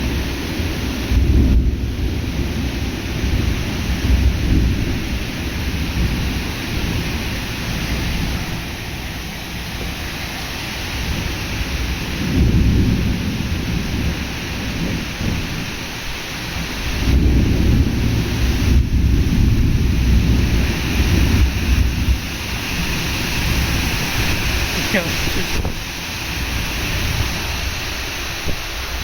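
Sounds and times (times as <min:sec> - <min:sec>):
heavy rain falling: 0:00.0 - 0:29.0
thunder rumbling: 0:00.0 - 0:29.0.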